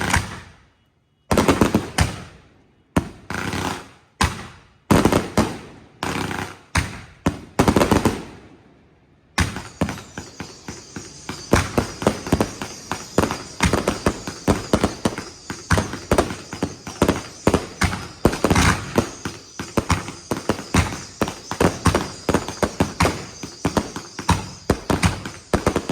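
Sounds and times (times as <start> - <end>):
fireworks banging and crackling: 1.3 - 2.4, 3.0 - 8.5, 9.4 - 25.9.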